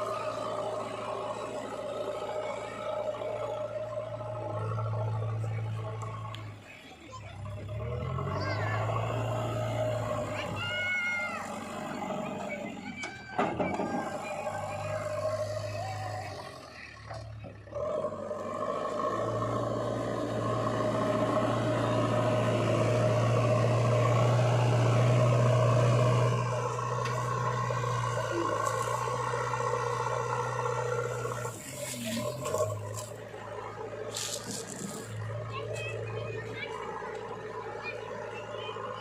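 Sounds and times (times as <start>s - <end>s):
heavy diesel engine running: 0.0s - 39.0s.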